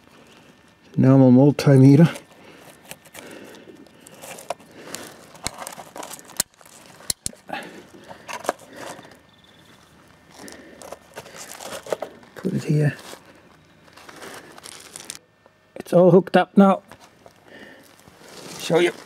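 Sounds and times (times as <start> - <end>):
multimeter handling on gravel: 0.0 - 15.2, 16.9 - 19.0.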